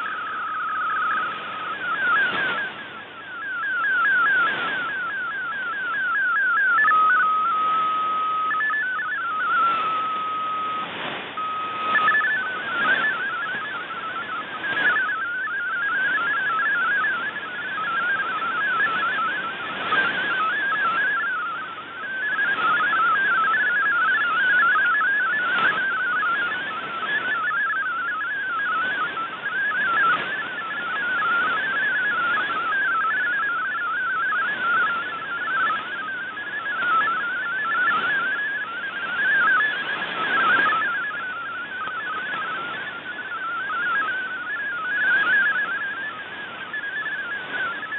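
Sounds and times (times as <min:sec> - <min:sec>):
atmospheric static crackles: 0:00.0 - 0:47.9
digital data signal tones: 0:00.0 - 0:47.9.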